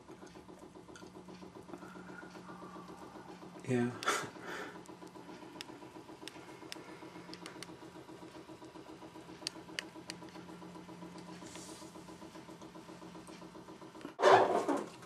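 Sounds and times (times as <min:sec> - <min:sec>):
pulsing machine hum: 0:00.0 - 0:15.0.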